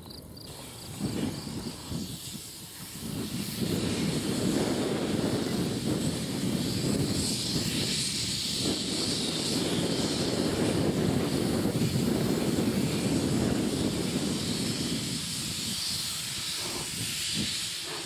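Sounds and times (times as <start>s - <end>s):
steam hissing: 0.0s - 18.0s
steam locomotive exhaust: 0.0s - 18.0s.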